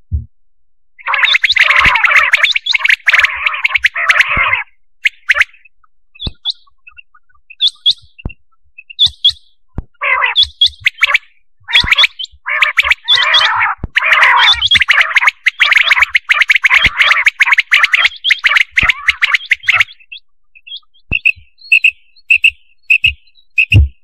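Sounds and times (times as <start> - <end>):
quail calls: 1.0 - 8.3, 10.0 - 23.9.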